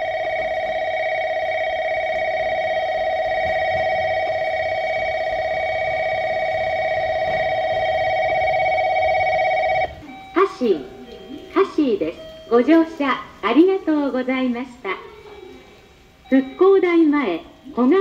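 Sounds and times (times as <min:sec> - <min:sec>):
electronic warning bell ringing: 0:00.0 - 0:13.4, 0:15.1 - 0:18.0.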